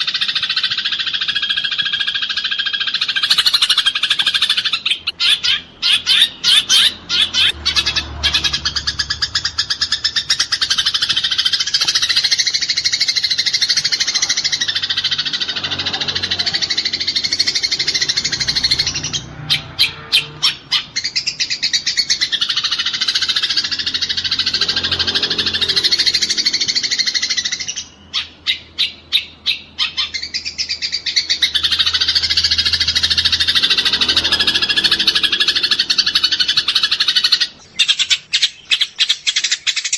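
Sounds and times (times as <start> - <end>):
sparrows chattering: 0.0 - 39.9.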